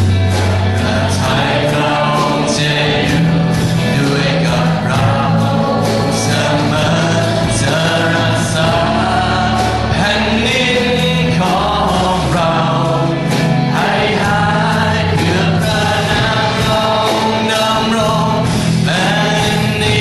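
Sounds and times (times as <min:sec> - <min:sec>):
drums and cymbals: 0:00.0 - 0:20.0
steady bass: 0:00.0 - 0:20.0
voices singing: 0:00.0 - 0:20.0
worship band playing: 0:00.0 - 0:20.0.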